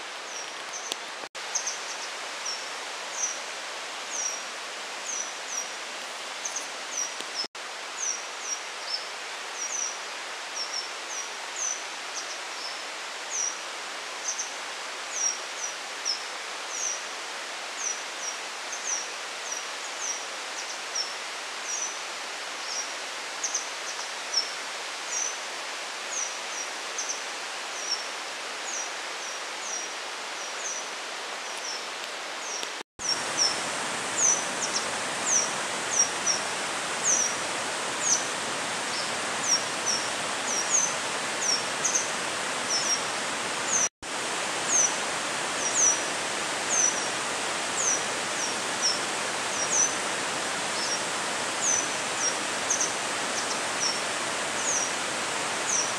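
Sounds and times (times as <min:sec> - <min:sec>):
outdoor hiss: 0:00.0 - 0:55.9.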